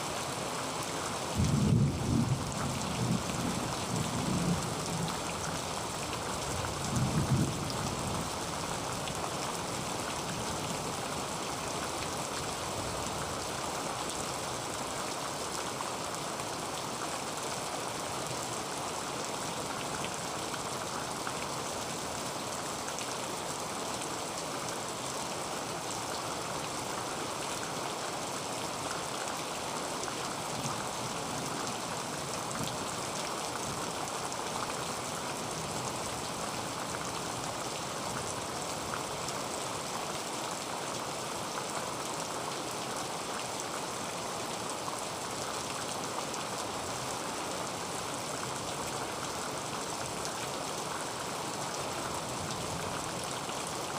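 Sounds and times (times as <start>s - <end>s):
heavy rain on a tin roof: 0.0s - 53.9s.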